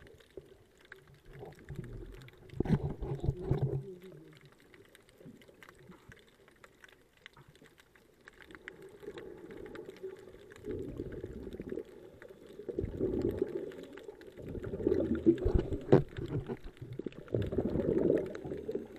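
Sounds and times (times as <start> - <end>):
underwater bubbling: 0.0 - 18.9.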